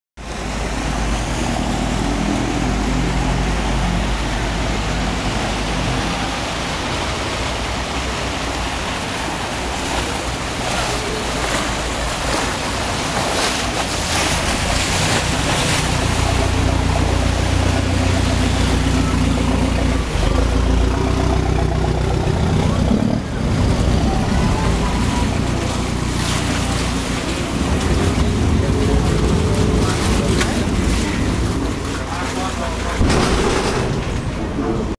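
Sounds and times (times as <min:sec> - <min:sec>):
boat engines humming: 0:00.2 - 0:34.9
motorboat passing: 0:00.2 - 0:34.9
waves slapping and churning: 0:00.2 - 0:34.9.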